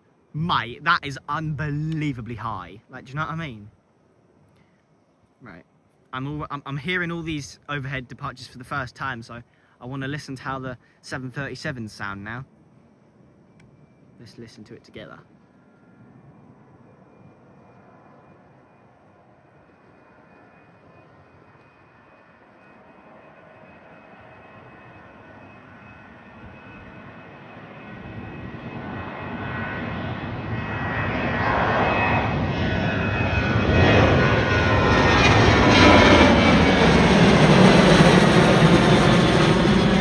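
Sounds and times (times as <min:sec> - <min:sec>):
thin jet whine: 0:00.0 - 0:40.0
jet engine roar: 0:06.2 - 0:40.0.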